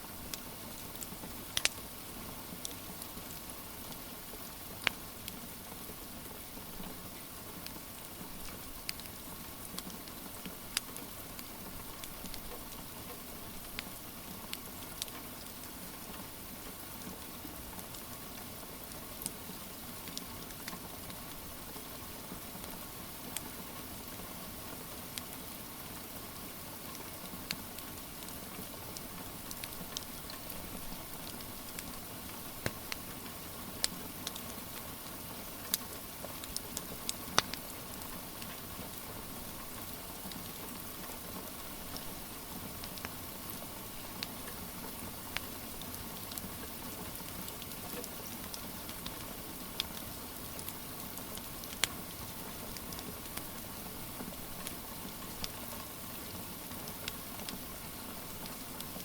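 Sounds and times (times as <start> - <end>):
steady rain hiss: 0.0 - 59.0
wood fire crackling and popping: 0.2 - 6.4, 7.6 - 16.1, 18.7 - 21.8, 26.9 - 59.0.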